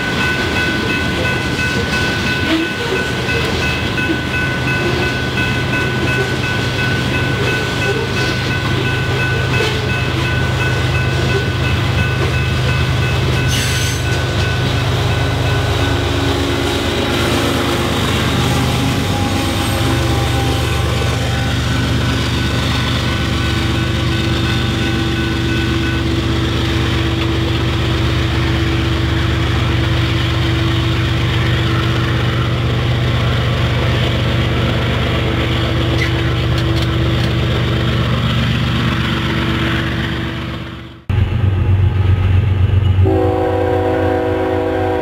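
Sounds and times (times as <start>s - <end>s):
diesel locomotive engines droning: 0.0s - 45.0s
train rumbling: 0.0s - 45.0s.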